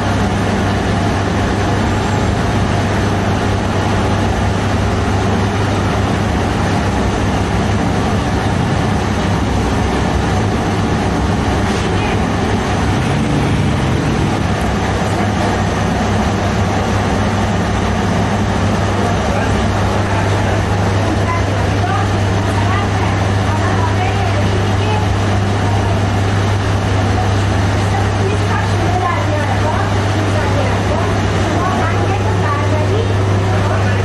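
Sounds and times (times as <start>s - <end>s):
bakery machinery humming: 0.0s - 34.0s.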